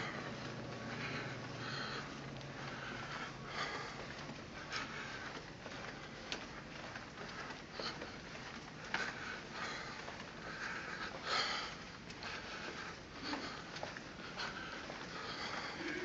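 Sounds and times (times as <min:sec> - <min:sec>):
footsteps on carpet: 0:00.0 - 0:16.0.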